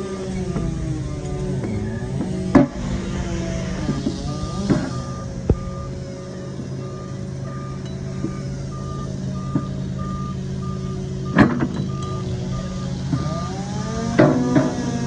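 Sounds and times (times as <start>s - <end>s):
diesel engine running: 0.0s - 15.0s
back-up alarm beeping: 0.2s - 14.5s.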